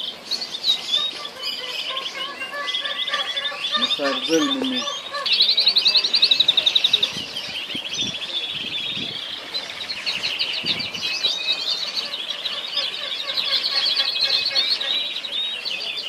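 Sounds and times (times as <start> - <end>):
canaries singing trills: 0.0 - 16.0.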